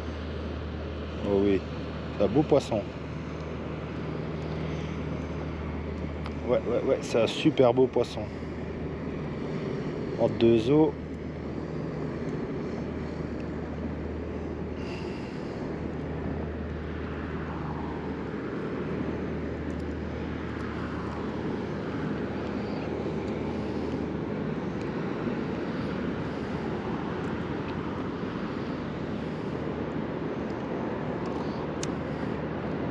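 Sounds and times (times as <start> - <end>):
boat engine drone: 0.0 - 32.9.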